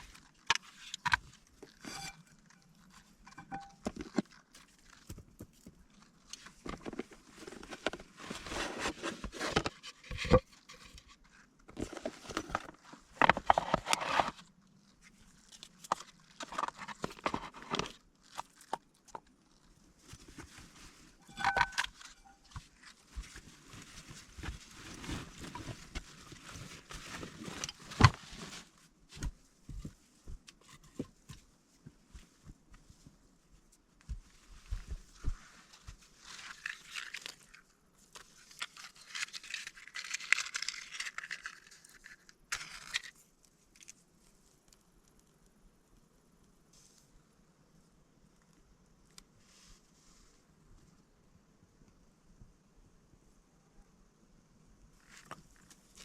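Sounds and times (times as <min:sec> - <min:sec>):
rustling and crunching on forest floor: 0:00.0 - 0:47.4, 0:54.9 - 0:56.0.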